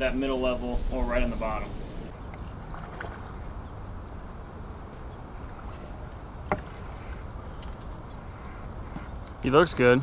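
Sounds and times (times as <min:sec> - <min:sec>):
water by dock: 0:00.0 - 0:10.0
wind: 0:00.0 - 0:10.0.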